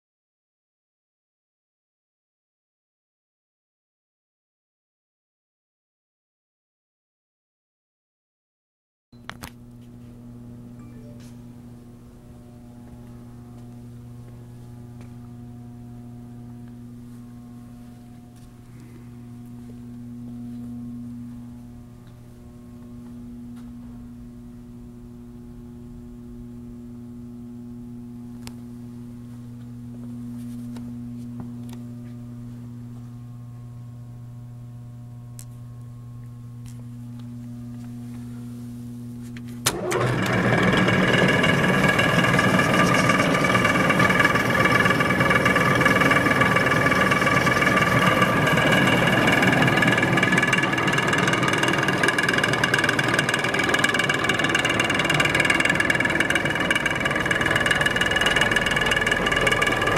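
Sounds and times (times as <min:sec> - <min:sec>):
low electrical mains hum: 0:09.2 - 0:59.9.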